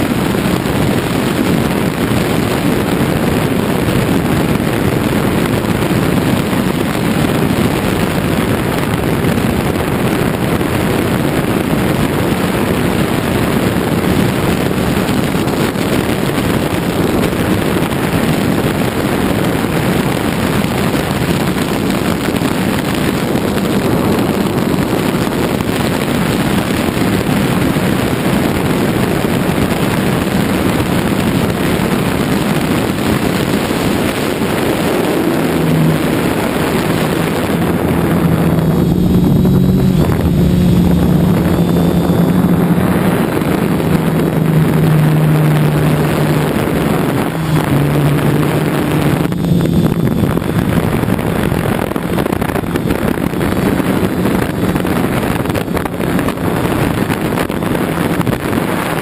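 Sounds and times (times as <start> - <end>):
drone motors and propellers: 0.0 - 59.0
wind rushing over microphone: 0.0 - 59.0.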